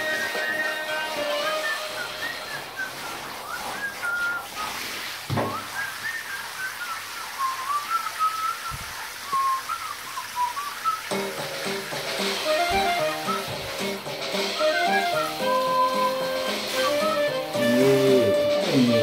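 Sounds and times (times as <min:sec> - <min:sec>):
person whistling a tune: 0:00.2 - 0:04.8, 0:05.5 - 0:11.3, 0:12.4 - 0:13.6, 0:14.6 - 0:19.0.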